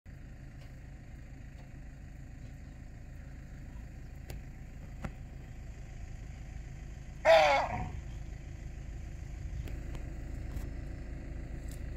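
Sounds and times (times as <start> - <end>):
vehicle engine idling: 0.1 - 11.9.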